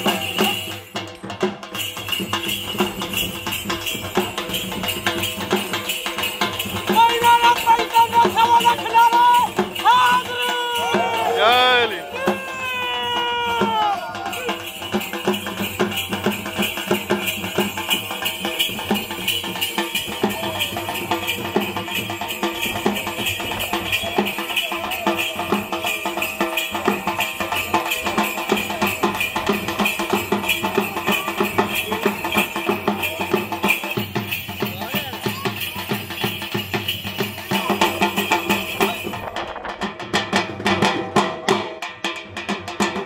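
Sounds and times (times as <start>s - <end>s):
ankle bells jingling: 0.0s - 39.9s
rhythmic drumming: 0.0s - 43.0s.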